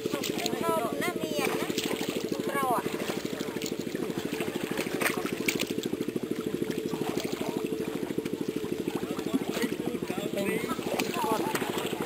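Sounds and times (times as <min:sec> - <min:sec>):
small engine running: 0:00.0 - 0:12.0
splashes in muddy water: 0:00.0 - 0:12.0.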